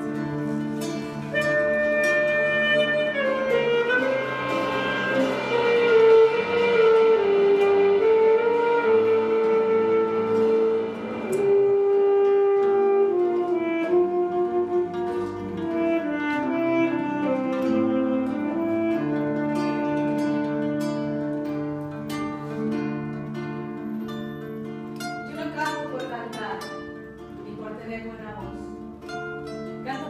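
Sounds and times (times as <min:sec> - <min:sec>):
saxophone slow melody: 0:00.0 - 0:25.0
acoustic guitars plucking: 0:00.0 - 0:30.0.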